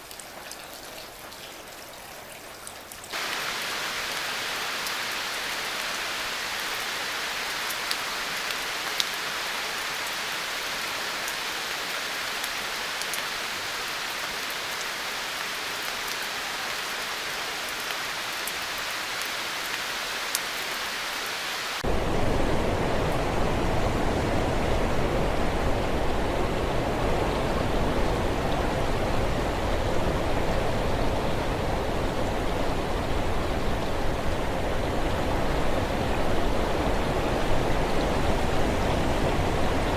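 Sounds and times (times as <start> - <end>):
steady rain hiss: 3.0 - 39.9
deep rush of water: 3.1 - 39.9.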